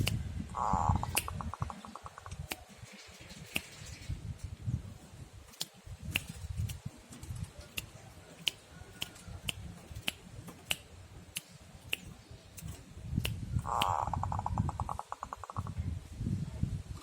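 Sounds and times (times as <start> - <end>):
sharp clicks: 1.0 - 4.5, 5.5 - 15.7.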